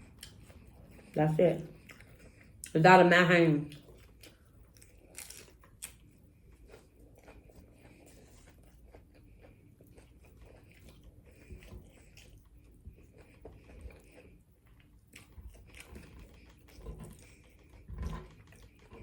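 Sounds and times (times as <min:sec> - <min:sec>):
person chewing food: 0:00.0 - 0:02.8, 0:03.7 - 0:19.0.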